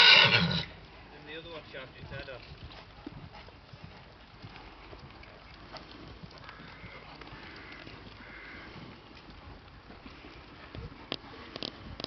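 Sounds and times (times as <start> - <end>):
horse trotting on sand: 0.8 - 12.0.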